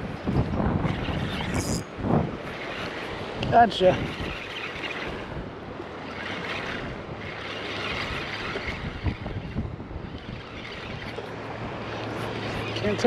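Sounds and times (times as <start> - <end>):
wind on microphone: 0.0 - 13.0
creek water flowing: 2.0 - 13.0.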